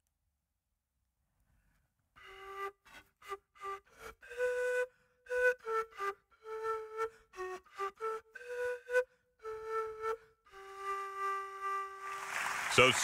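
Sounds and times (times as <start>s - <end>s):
panpipes playing: 2.2s - 12.9s.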